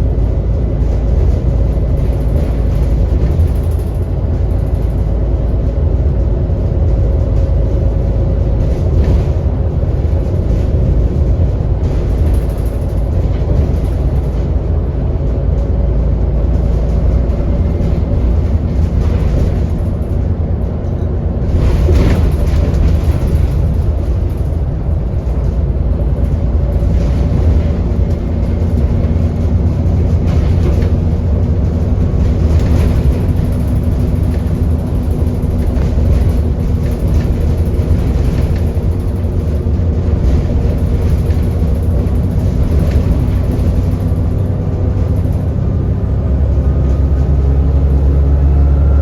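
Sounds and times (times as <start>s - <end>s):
rattle and rush: 0.0s - 48.6s
bus engine rumbling: 0.0s - 49.0s.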